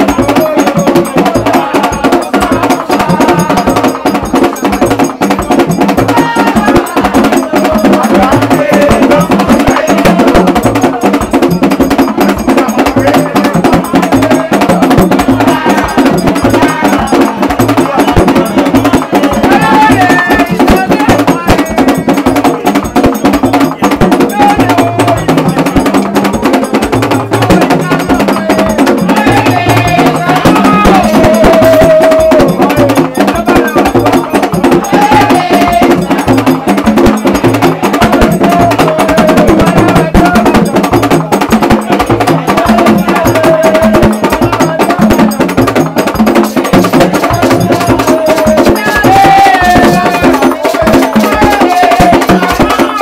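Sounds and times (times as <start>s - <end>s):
drum ensemble playing: 0.0s - 53.0s
voices singing: 0.0s - 53.0s.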